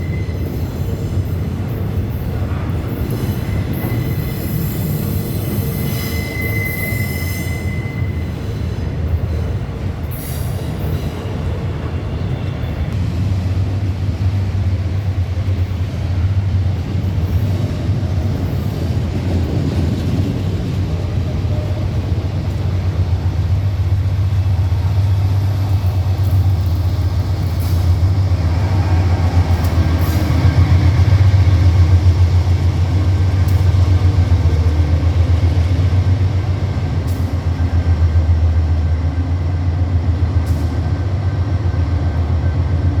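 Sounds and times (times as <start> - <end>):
freight train rumbling on rails: 0.0 - 43.0.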